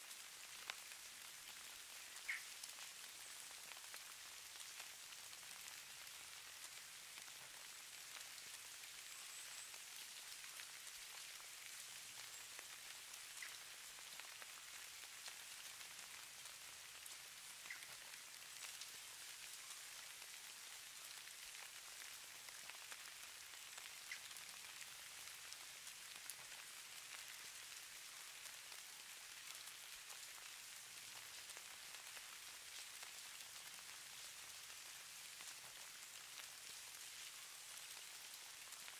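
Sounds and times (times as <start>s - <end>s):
fine snow pattering: 0.1s - 38.9s.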